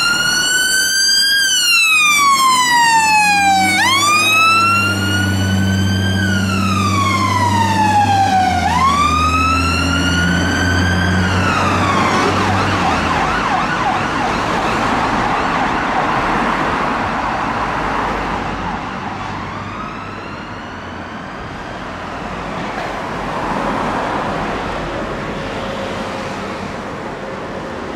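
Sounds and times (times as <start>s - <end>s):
fire engine engine running: 0.0s - 23.5s
fire engine siren: 0.0s - 26.3s
traffic noise: 0.0s - 27.9s.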